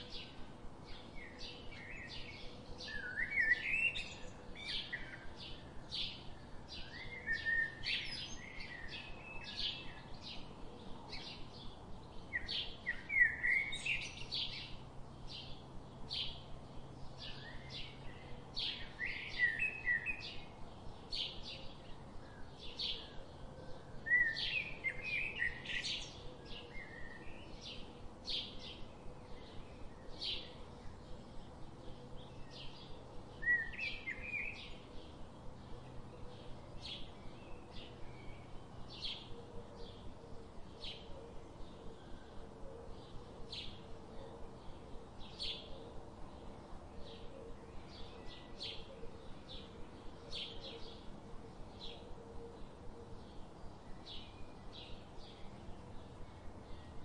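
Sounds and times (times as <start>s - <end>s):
small birds chirping: 0.0s - 57.0s
twittering birdsong: 0.0s - 57.0s.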